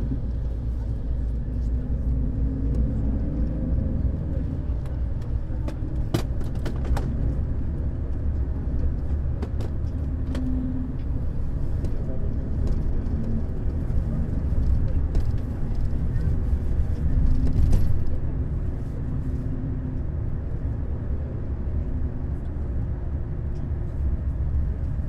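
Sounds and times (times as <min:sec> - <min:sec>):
diesel coach engine rumbling: 0:00.0 - 0:25.0.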